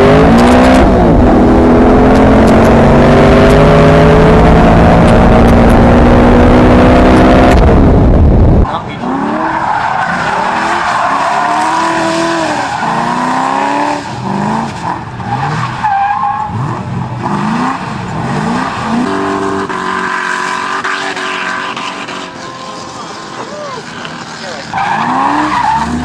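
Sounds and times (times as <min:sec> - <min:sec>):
car engine revving hard: 0:00.0 - 0:15.7, 0:16.5 - 0:22.5.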